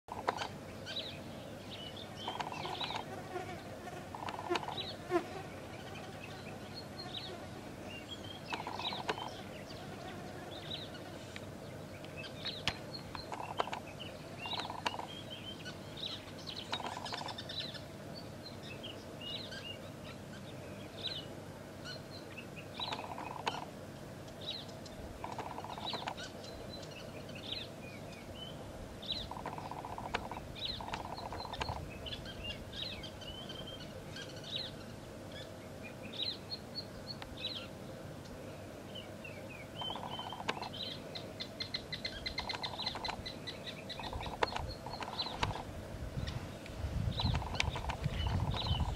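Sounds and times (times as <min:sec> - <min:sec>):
birds chirping and twittering: 0:00.1 - 0:48.9.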